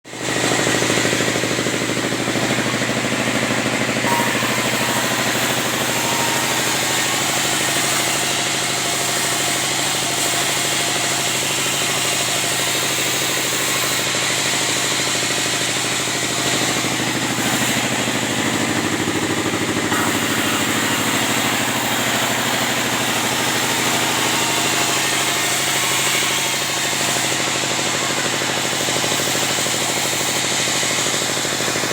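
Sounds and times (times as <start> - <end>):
band sawmill running: 0.1 - 31.9.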